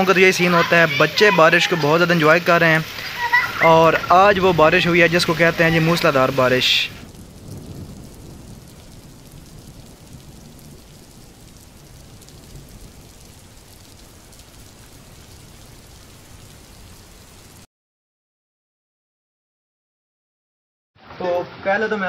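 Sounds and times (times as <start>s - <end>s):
heavy rain on paving: 0.0s - 17.7s.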